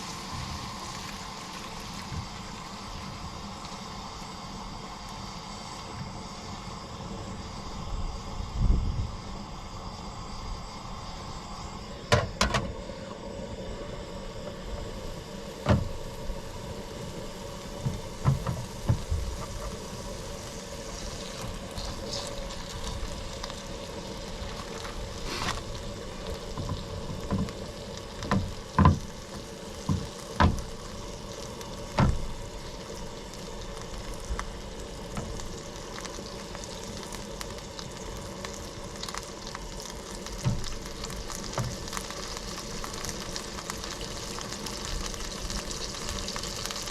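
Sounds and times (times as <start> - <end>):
dough sizzling in a pan: 0.0 - 46.9.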